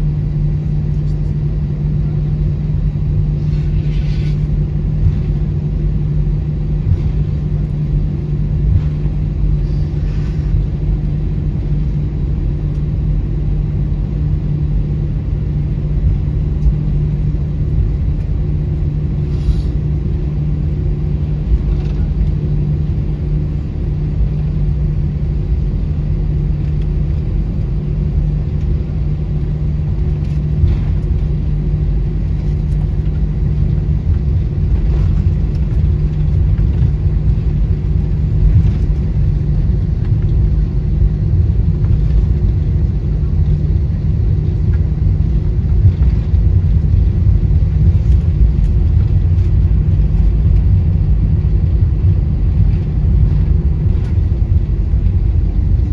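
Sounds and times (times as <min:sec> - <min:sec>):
jet engines humming low: 0:00.0 - 0:55.9
wheels rumbling on runway: 0:00.0 - 0:55.9.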